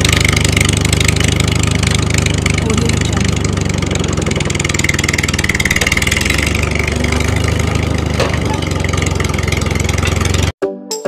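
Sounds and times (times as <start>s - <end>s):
tractor engine idling: 0.0s - 10.6s.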